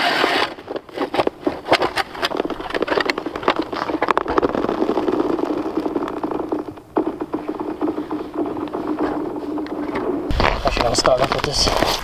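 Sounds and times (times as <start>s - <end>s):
auger grinding: 0.0s - 12.0s
ice auger crunching into ice: 0.0s - 12.0s.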